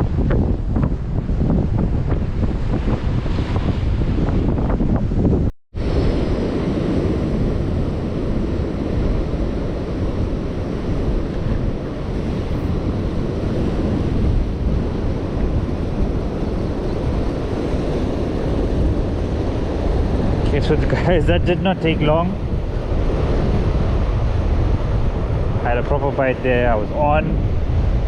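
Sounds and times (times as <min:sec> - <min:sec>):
surf breaking on beach: 0:00.0 - 0:28.0
wind buffeting microphone: 0:00.0 - 0:28.0.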